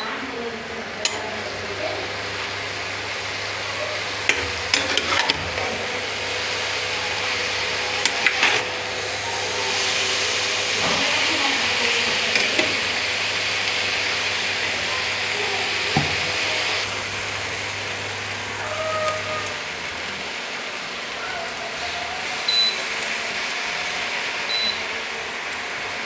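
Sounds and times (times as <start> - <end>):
food sizzling in a pan: 0.8 - 26.0.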